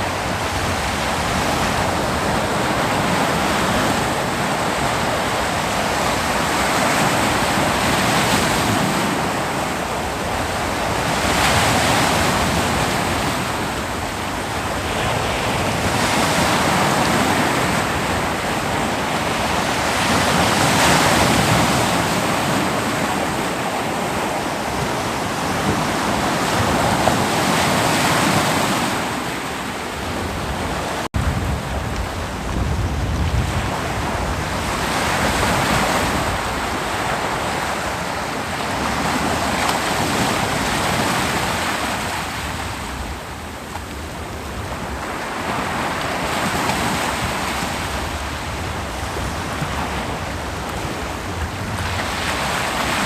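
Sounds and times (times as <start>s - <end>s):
ocean surf breaking on beach: 0.0s - 53.0s.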